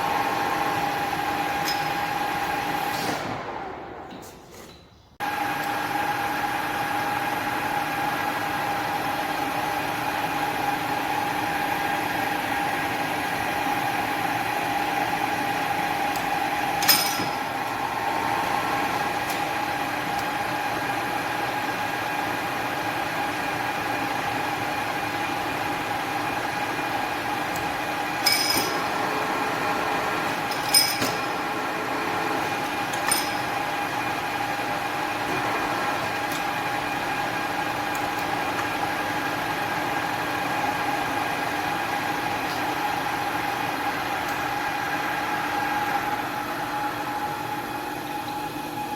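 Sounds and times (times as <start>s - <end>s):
lathe running: 0.0s - 3.4s, 5.2s - 48.8s.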